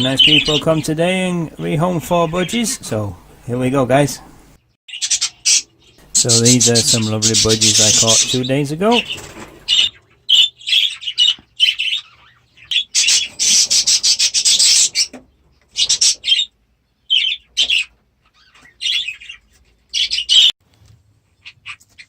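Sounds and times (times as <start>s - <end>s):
budgerigars chattering and squawking: 0.0s - 20.5s, 21.4s - 22.0s.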